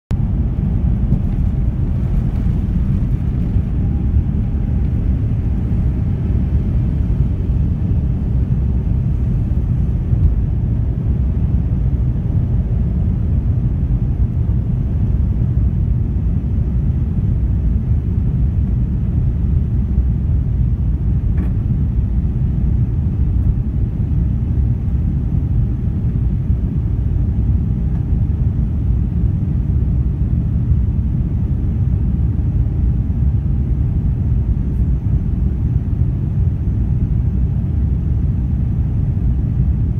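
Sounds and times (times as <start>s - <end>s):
jet engines rumbling in cabin: 0.1s - 39.9s.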